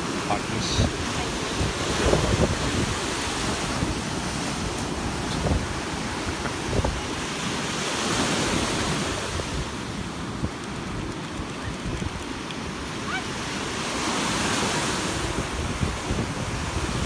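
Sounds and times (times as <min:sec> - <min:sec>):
lake waves washing on sand: 0:00.0 - 0:17.0
wind rumbling on microphone: 0:00.0 - 0:17.0.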